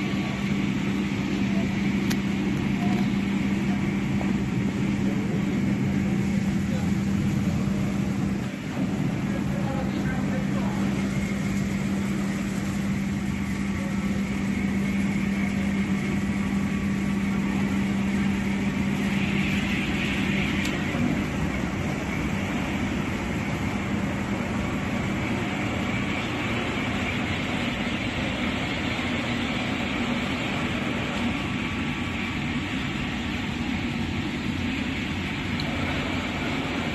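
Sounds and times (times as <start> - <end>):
continuous hum: 0.0 - 36.9
factory machinery running: 0.0 - 36.9.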